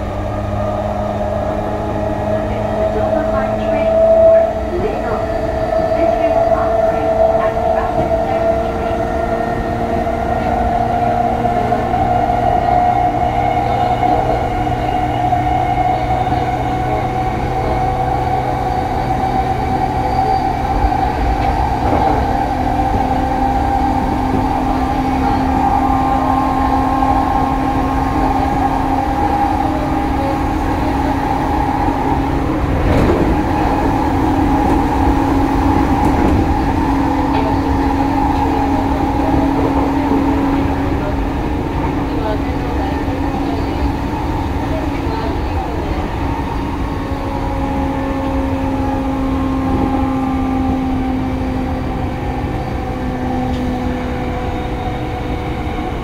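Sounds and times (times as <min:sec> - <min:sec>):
rumble of wheels on rail: 0:00.0 - 0:56.0
steady whining tones: 0:00.0 - 0:56.0.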